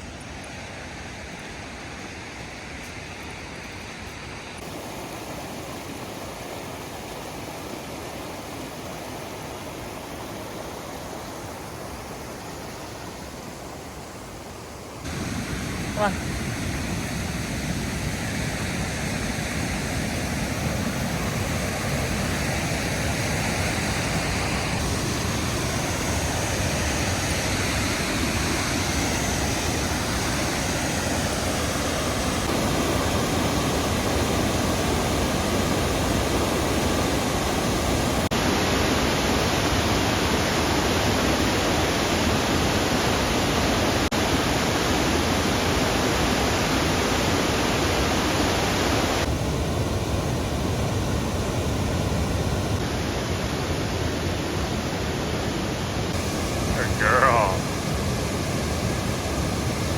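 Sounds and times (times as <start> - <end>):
creek rushing over rapids: 0.0 - 59.9.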